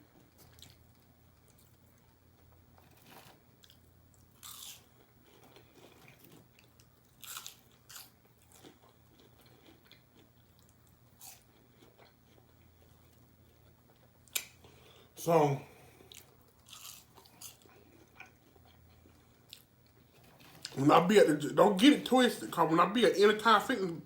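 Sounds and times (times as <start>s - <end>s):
crunching of fried food: 0.0s - 14.8s, 15.9s - 20.8s
quiet chewing: 0.0s - 15.0s, 15.8s - 20.8s.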